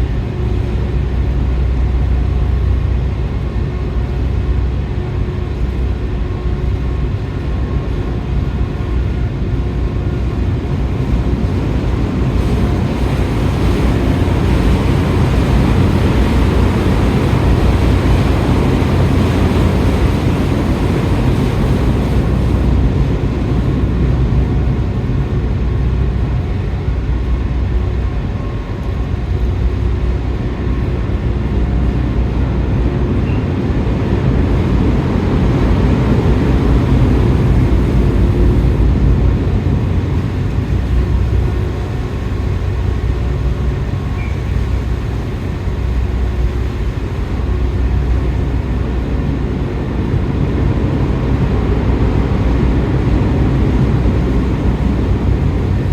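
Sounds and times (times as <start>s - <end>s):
ferry engine hum: 0.0s - 55.9s.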